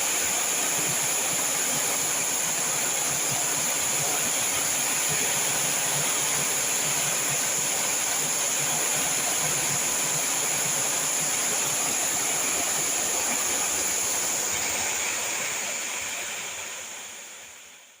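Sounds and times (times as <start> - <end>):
heavy rain in strong wind: 0.0 - 17.7.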